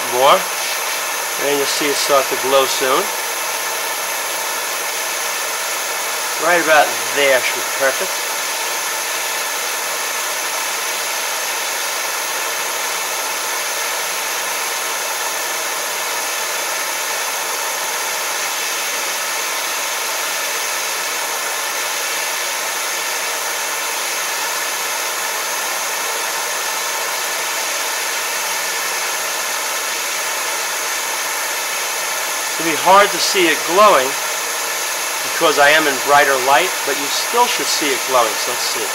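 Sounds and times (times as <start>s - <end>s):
gas torch flame hissing: 0.0s - 38.9s.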